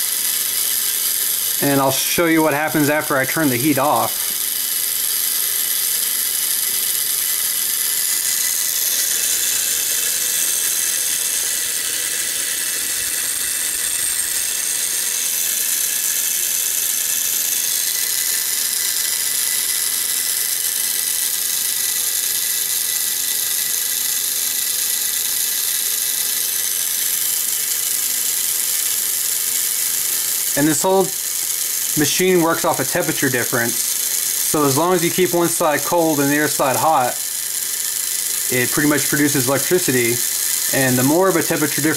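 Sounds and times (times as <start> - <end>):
electric motor and fan whirring: 0.0 - 41.9.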